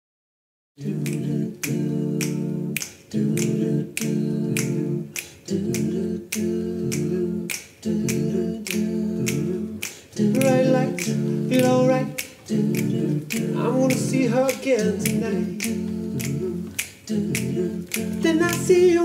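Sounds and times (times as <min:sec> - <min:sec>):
men's a cappella group singing: 0:00.8 - 0:19.0
finger snaps: 0:01.0 - 0:18.8.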